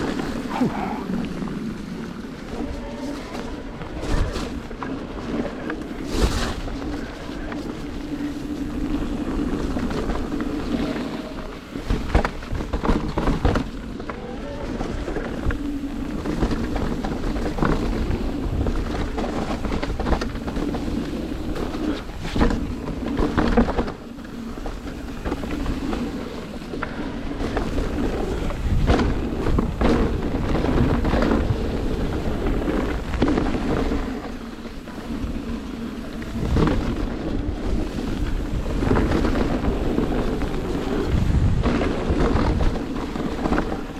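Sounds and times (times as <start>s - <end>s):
bike knocking and rattling: 0.0s - 43.9s
bike tyres on trail: 0.0s - 43.9s
wind noise: 0.0s - 43.9s.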